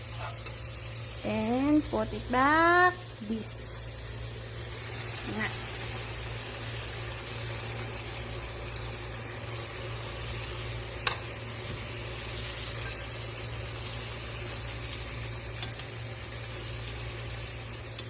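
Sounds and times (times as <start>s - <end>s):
food sizzling in a pan: 0.0s - 18.0s
low steady hum: 0.0s - 18.0s.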